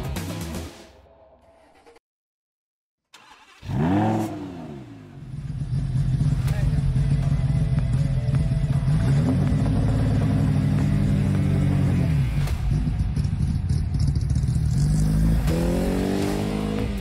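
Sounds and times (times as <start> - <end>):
race car engine revving: 3.2 - 17.0.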